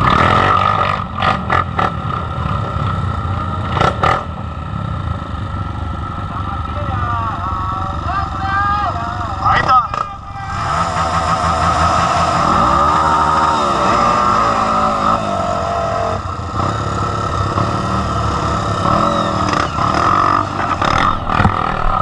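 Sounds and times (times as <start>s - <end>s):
dirt bike engine revving: 0.0s - 22.0s
dirt bike engine running steadily: 0.0s - 22.0s.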